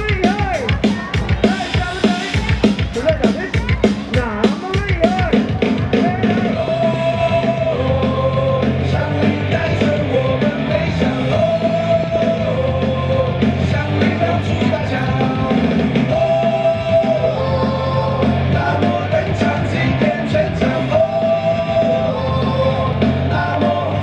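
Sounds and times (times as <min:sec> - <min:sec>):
crowd yelling chants: 0:00.0 - 0:24.0
rock cheer song over loudspeakers: 0:00.0 - 0:24.0.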